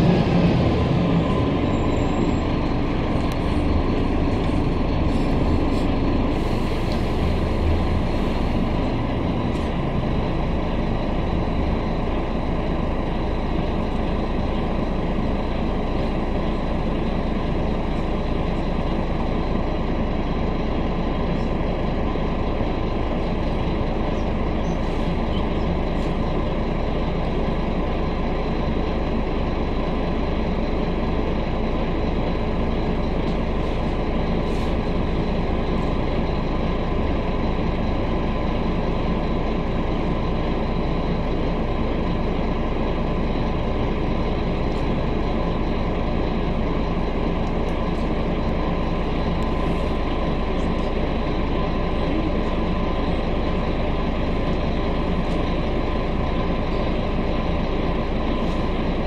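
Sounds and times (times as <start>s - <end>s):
bus engine running: 0.0s - 59.0s
road and body noise: 0.0s - 59.0s.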